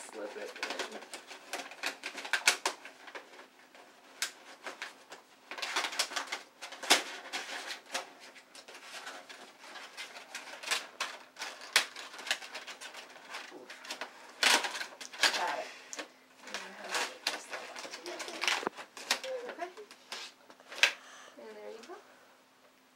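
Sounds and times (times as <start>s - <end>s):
paper lampshade rustling: 0.0s - 15.8s, 16.4s - 21.0s.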